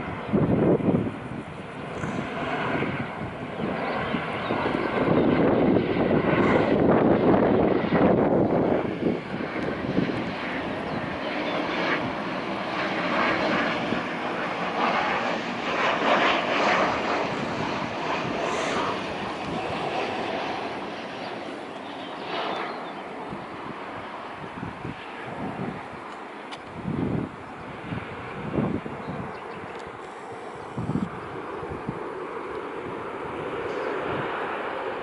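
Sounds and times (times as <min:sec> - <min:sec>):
airliner engines rumbling past: 0:00.0 - 0:35.0.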